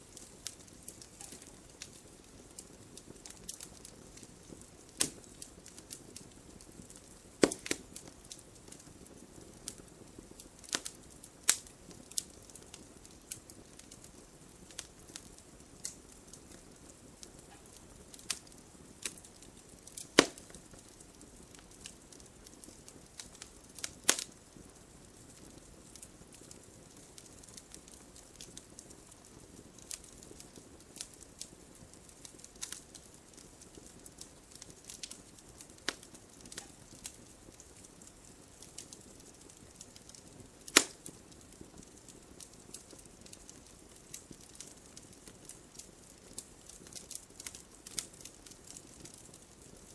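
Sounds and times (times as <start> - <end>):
flames hissing: 0.0 - 49.9
wood fire crackling and popping: 0.0 - 49.9.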